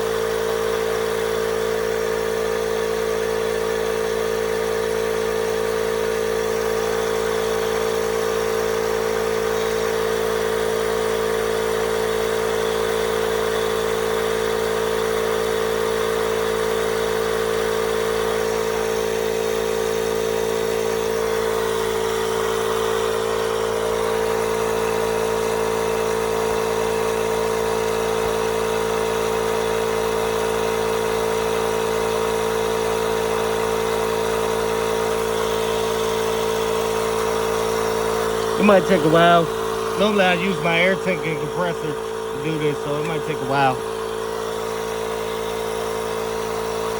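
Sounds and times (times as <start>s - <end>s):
tire inflator droning: 0.0s - 46.9s.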